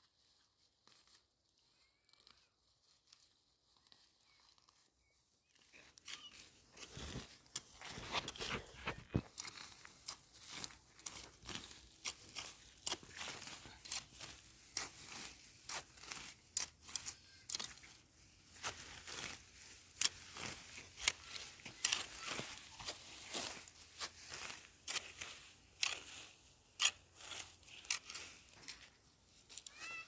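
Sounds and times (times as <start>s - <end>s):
grass being pulled and torn: 0.0s - 30.0s.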